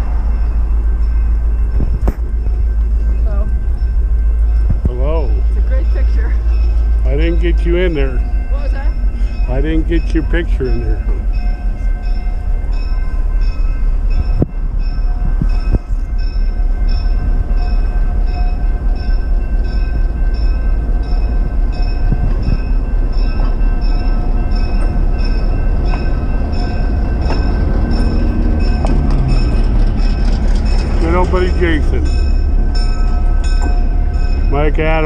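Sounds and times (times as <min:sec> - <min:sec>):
bell ringing: 0:00.0 - 0:35.0
metallic clanks from train cars: 0:00.0 - 0:35.0
passenger train rumbling past: 0:00.0 - 0:35.0.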